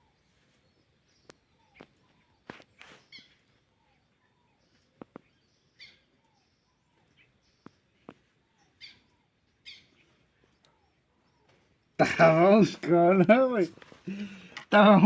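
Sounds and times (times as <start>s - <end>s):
faint chirps: 0.0s - 15.0s.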